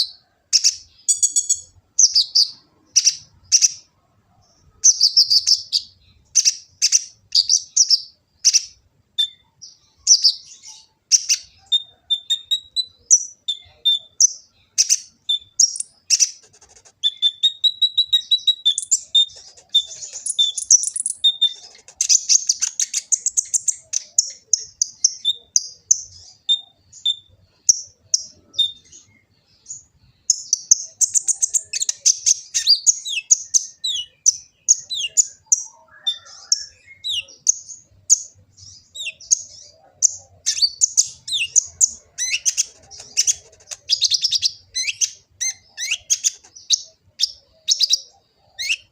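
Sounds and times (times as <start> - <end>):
bird singing high chirps: 0.0 - 48.9.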